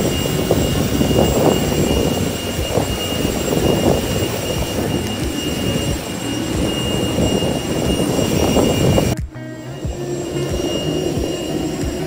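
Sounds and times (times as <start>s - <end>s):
high jet whine: 0.0s - 12.0s
jet aircraft rushing noise: 0.0s - 12.0s.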